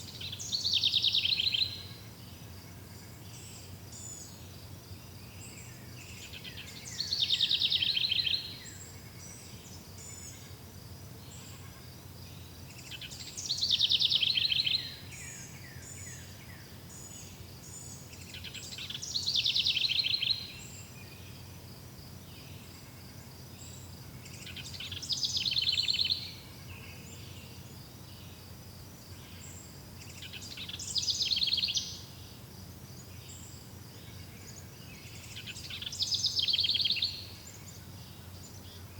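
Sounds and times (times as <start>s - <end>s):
faint insect chirring: 0.0s - 38.9s.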